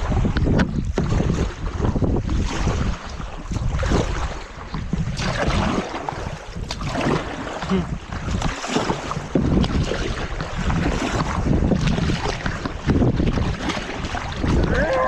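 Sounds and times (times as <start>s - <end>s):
paddles splashing in water: 0.0s - 15.0s
wind rumbling on microphone: 0.0s - 15.0s.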